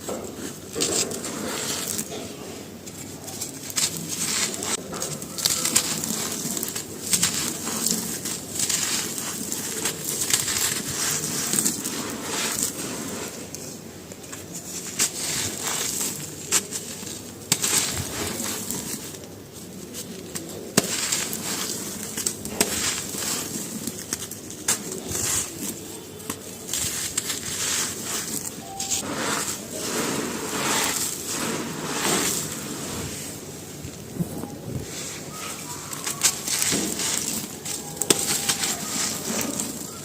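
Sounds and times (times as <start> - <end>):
charcoal being crushed: 0.0 - 40.0
charcoal snapping: 2.9 - 32.7, 35.2 - 40.0.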